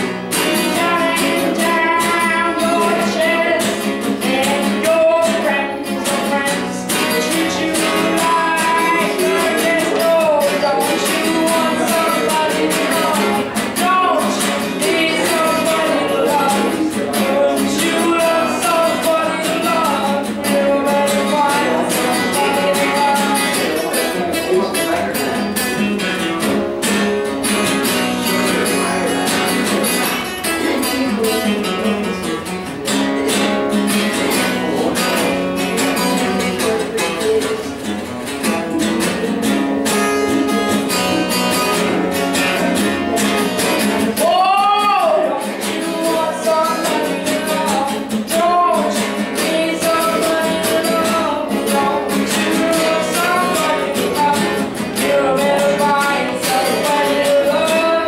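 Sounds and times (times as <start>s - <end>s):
acoustic guitar strumming: 0.0s - 58.0s
guitar melody line: 0.0s - 58.0s.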